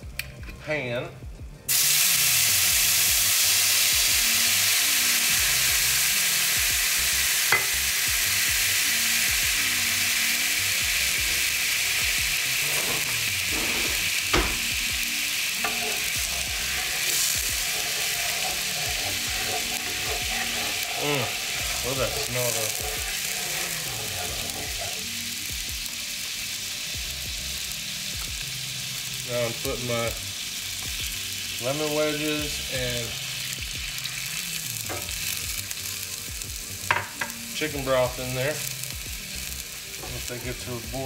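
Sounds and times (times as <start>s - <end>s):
liquid sizzling in a skillet: 1.7s - 41.0s.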